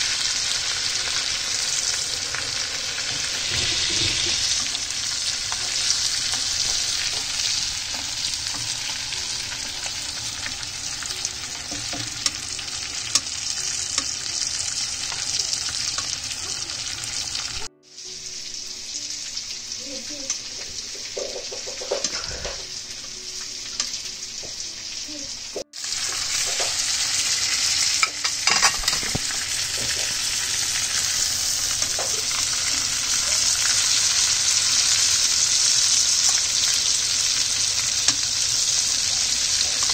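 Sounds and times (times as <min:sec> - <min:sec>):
steak sizzling in frying pan: 0:00.0 - 0:39.9.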